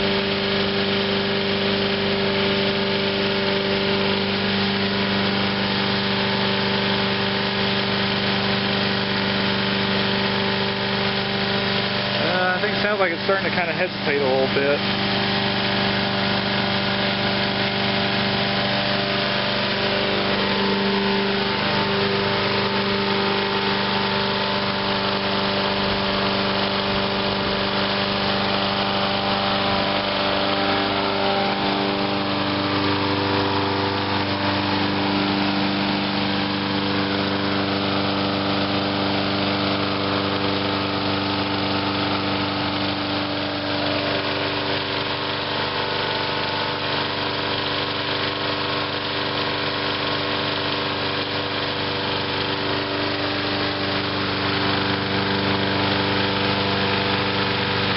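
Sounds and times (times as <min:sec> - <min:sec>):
lawn mower engine running: 0:00.0 - 0:57.9.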